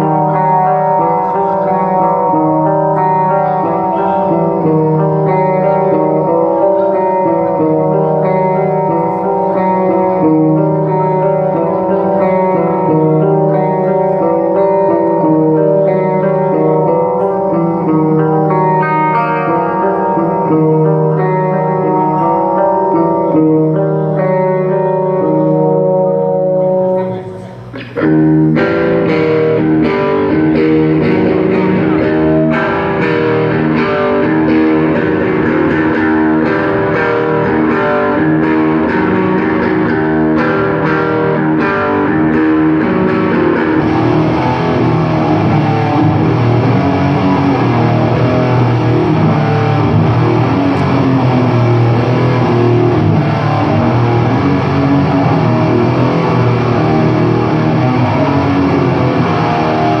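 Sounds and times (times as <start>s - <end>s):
distorted electric guitar riff: 0.0s - 60.0s
heavy metal band playing: 0.0s - 60.0s.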